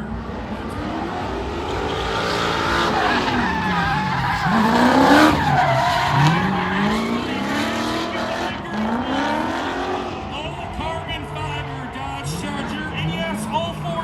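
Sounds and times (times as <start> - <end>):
car engine revving hard: 0.0 - 14.0
tires squealing: 0.0 - 14.0.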